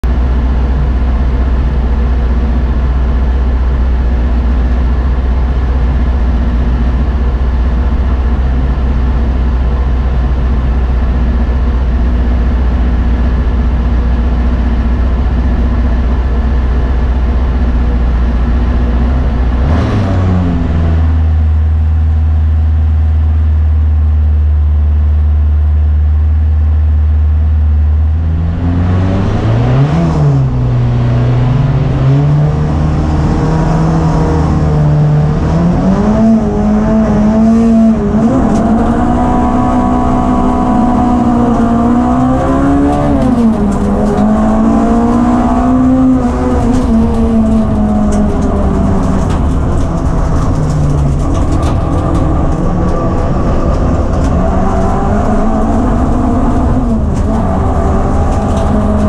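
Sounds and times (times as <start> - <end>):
car engine revving: 0.0 - 23.8, 27.4 - 59.0.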